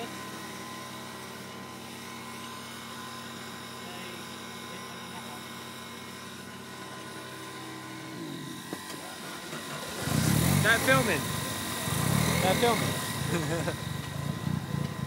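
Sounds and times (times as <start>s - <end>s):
car engine idling: 2.5s - 15.0s.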